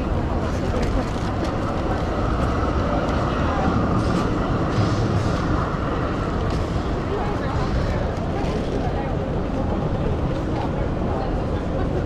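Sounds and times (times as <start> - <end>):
city street noise: 0.0 - 12.0
traffic rumble: 0.0 - 12.0.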